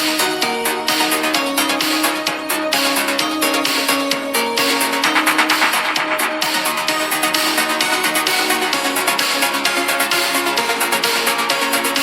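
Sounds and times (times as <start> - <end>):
electronic music with synth: 0.0 - 12.0.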